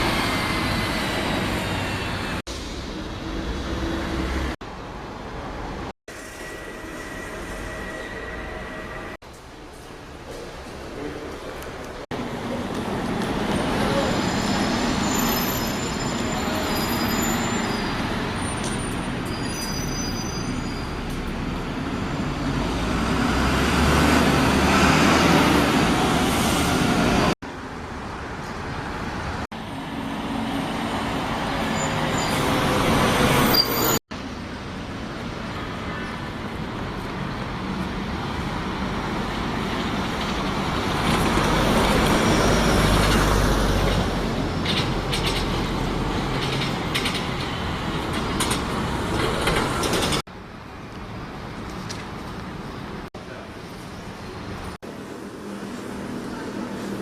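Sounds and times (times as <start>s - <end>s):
buses passing: 0.0s - 57.0s.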